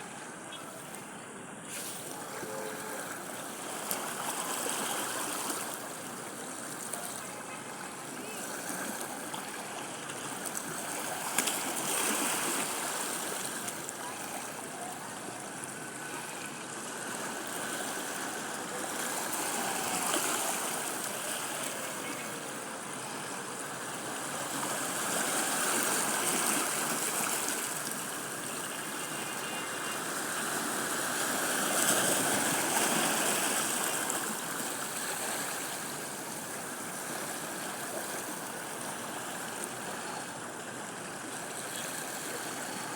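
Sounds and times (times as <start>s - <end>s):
sea waves washing onto beach: 0.0s - 42.9s.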